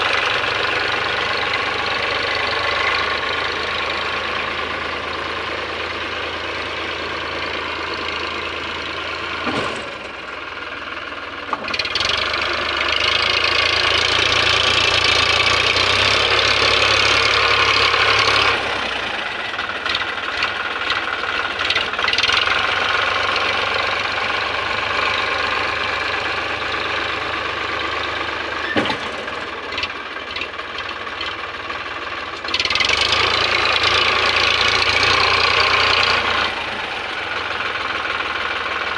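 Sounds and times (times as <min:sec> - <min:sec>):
tractor diesel engine knocking: 0:00.0 - 0:38.9.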